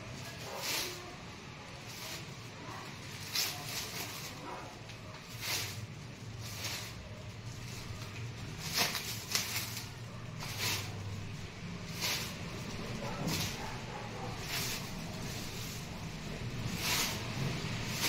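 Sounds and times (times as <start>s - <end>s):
steady low hum: 0.0s - 18.0s
plastic film crinkling: 1.6s - 18.0s.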